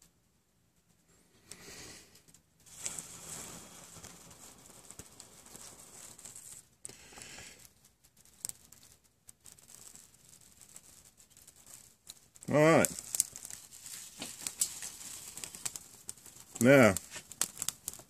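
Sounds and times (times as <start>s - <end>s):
small fire crackling: 0.0s - 18.0s.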